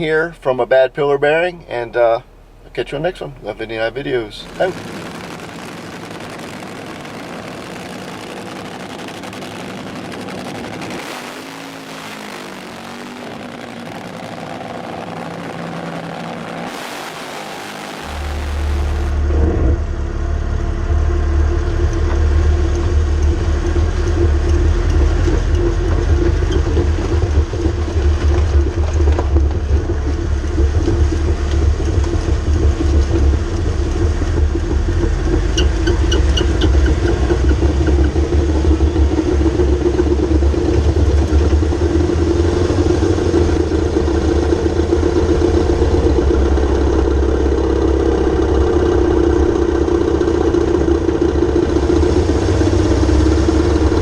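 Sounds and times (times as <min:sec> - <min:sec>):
car rumble: 0:00.0 - 0:54.0
drivetrain droning hum: 0:00.0 - 0:54.0.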